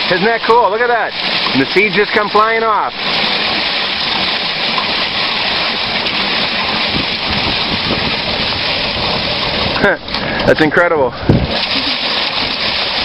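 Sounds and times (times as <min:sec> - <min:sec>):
grain spraying against machine: 0:00.0 - 0:13.0
rice thresher drum spinning: 0:00.0 - 0:13.0.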